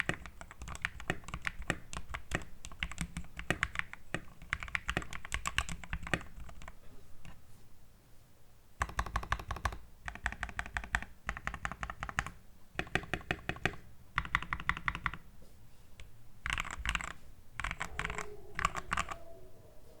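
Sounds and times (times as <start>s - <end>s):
mechanical keyboard typing: 0.0s - 7.4s, 8.8s - 15.2s, 16.0s - 19.2s.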